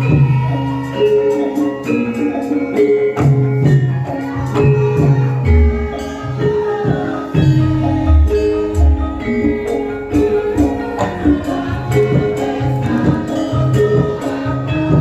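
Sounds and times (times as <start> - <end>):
struck metallophone notes: 0.0 - 15.0
steady drum pattern: 1.4 - 15.0.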